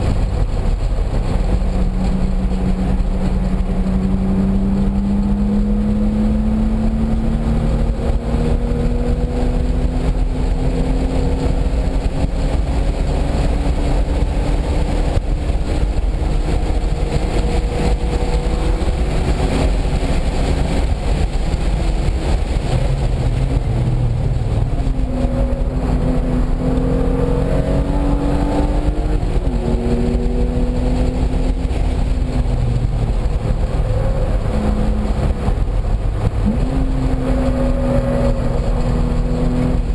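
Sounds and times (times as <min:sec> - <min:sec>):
car engine revving: 0:00.0 - 0:39.9
wind and road roar: 0:00.0 - 0:39.9.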